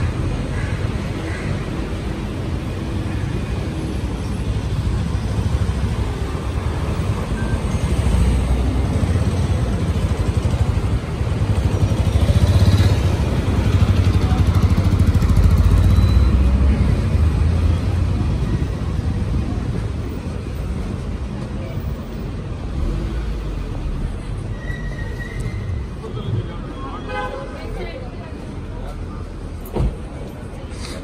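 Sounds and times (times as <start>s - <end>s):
low rumble of traffic: 0.0s - 31.0s.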